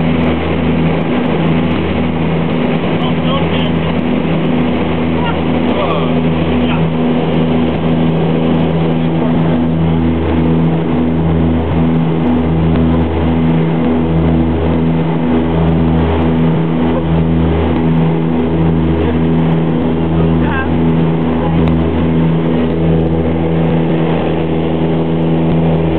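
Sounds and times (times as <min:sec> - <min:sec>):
turboprop engines droning: 0:00.0 - 0:25.9.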